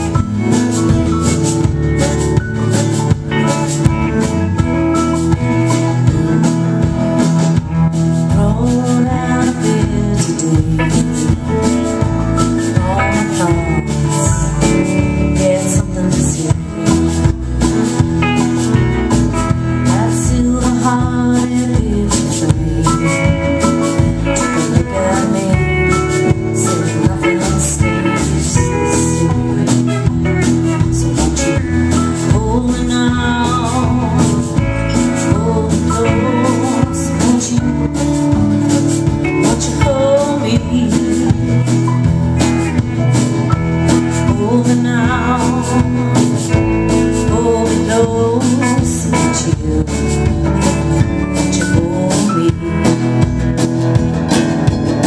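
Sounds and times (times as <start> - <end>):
drum kit beat: 0.0 - 55.0
electric guitar: 0.0 - 55.0
strummed acoustic guitar: 0.0 - 55.0
woman singing: 7.2 - 42.9, 43.7 - 53.7.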